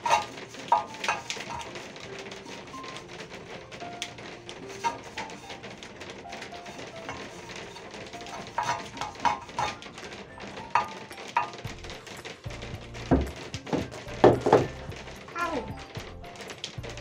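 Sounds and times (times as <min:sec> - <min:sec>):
paintbrush scraping inside clay pot: 0:00.0 - 0:16.2
brush tapping on clay: 0:00.0 - 0:17.0
soft background music: 0:00.0 - 0:17.0.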